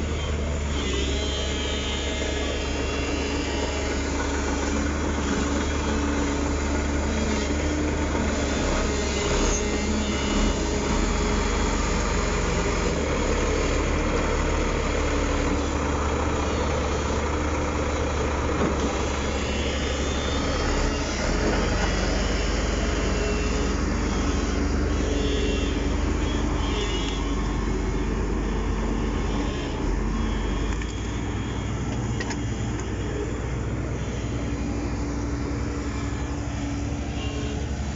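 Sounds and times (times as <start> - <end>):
heavy machinery diesel engines: 0.0 - 37.9.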